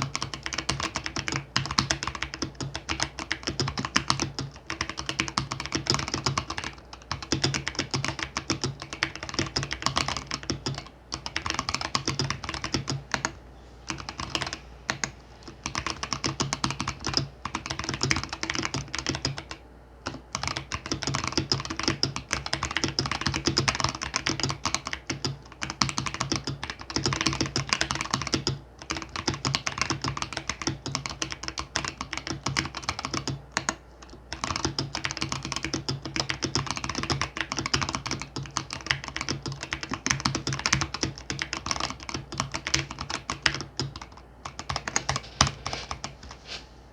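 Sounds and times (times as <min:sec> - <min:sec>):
mechanical keyboard typing: 0:00.0 - 0:46.4
faint steady hum: 0:00.0 - 0:46.9.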